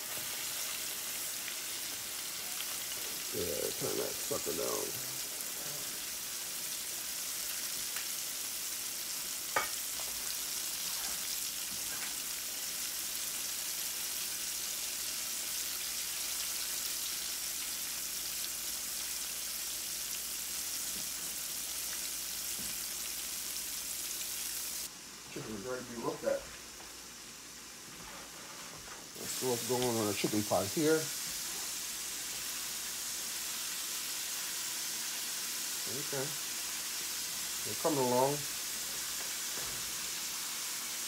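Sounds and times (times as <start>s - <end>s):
chicken deep-frying in oil: 0.0s - 24.9s, 29.1s - 41.0s.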